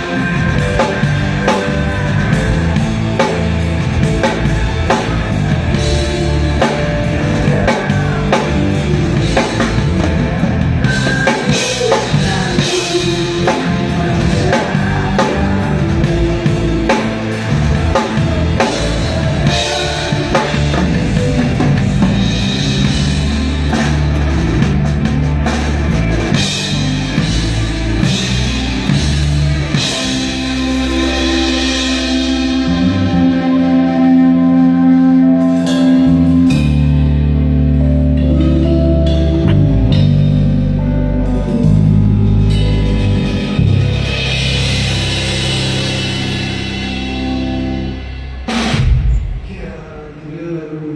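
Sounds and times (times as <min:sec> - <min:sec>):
rock song: 0:00.0 - 0:49.6
drum kit playing: 0:00.0 - 0:49.8.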